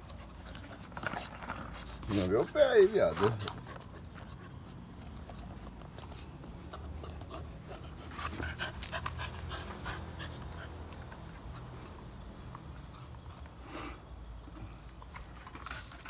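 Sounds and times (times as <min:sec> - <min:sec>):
puppy panting: 0:00.0 - 0:13.6.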